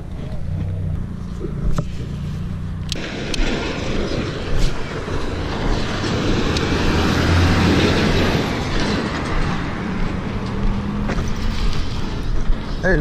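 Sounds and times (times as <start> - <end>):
low engine hum: 0.0 - 13.0
vehicle passing rumble: 0.0 - 13.0.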